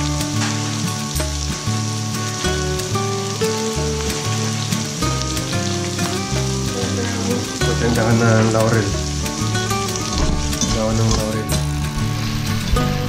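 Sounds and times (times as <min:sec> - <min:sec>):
background music: 0:00.0 - 0:13.0
vegetables sizzling in oil: 0:00.0 - 0:13.0.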